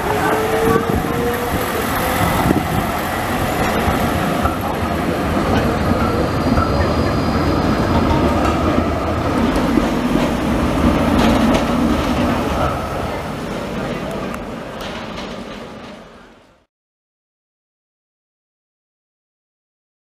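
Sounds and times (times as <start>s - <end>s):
tram wheels rumbling on rails: 0.0s - 16.7s.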